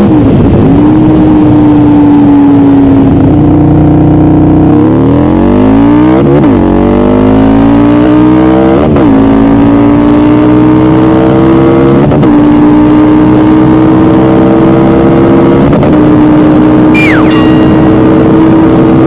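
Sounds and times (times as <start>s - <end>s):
motorcycle engine accelerating hard: 0.0s - 19.0s.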